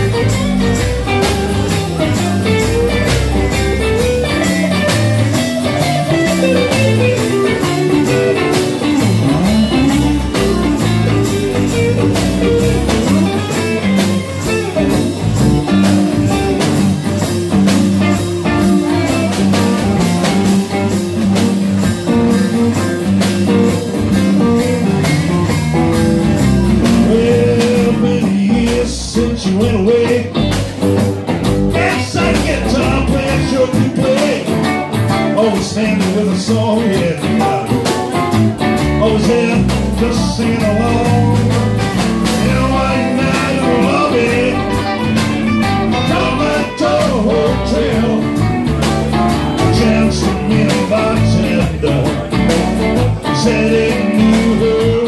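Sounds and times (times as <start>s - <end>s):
live blues-rock band: 0.0s - 55.0s.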